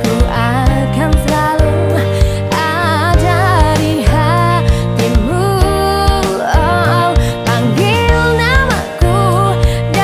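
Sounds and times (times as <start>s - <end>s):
pop song with female vocal: 0.0s - 10.0s.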